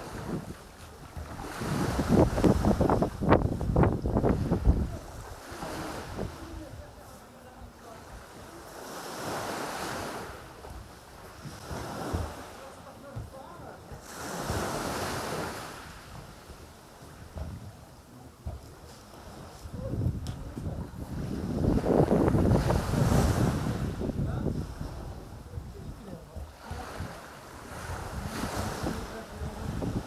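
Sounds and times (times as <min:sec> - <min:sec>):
sea waves washing onto beach: 0:00.0 - 0:30.0
wind rumbling on microphone: 0:00.0 - 0:30.0.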